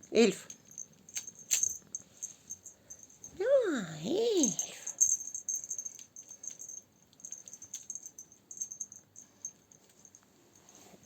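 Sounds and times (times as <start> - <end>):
cat toy jingling and clicking: 0.0 - 3.4, 4.3 - 10.2.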